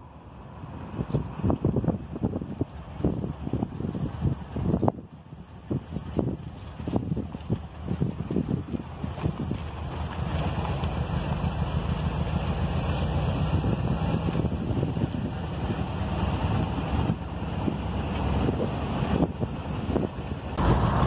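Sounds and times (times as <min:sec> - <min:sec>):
wind buffeting microphone: 0:00.6 - 0:21.0.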